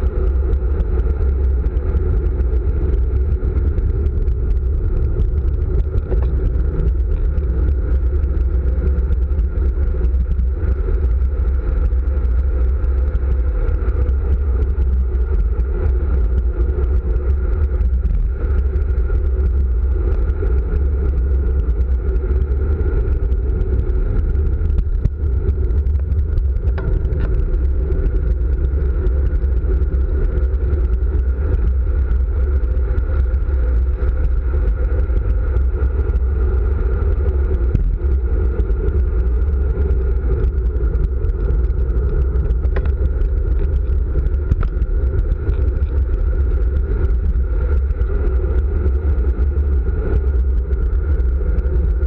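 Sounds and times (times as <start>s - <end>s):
wind rumble on microphone: 0.0s - 52.0s.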